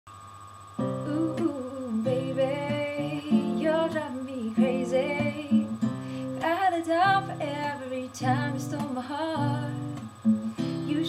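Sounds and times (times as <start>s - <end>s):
acoustic guitar playing: 0.8s - 11.0s
woman singing wordless notes: 1.0s - 10.0s, 10.6s - 11.0s.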